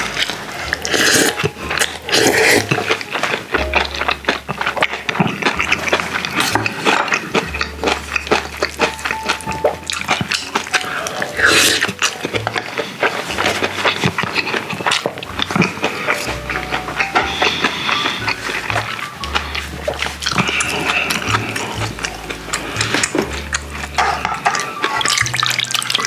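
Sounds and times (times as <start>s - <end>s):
background music with deep bass: 0.0s - 14.4s, 15.2s - 24.5s
wet chewing and smacking: 0.0s - 26.0s.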